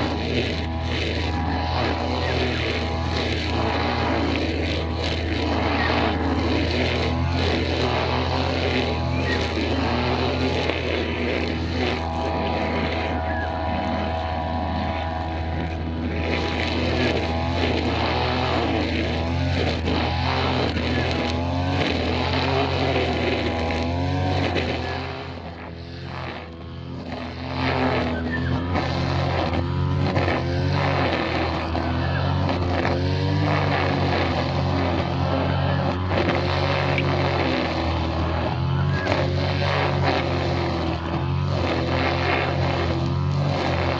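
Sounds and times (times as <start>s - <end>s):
brushcutter engine cutting: 0.0s - 43.9s.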